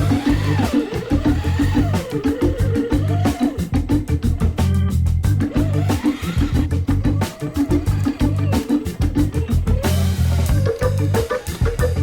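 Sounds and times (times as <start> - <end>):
music with drums and bass: 0.0 - 12.0.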